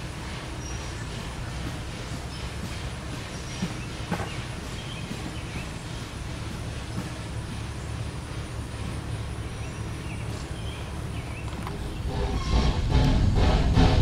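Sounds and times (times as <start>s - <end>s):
train cars rolling on track: 0.0s - 14.0s.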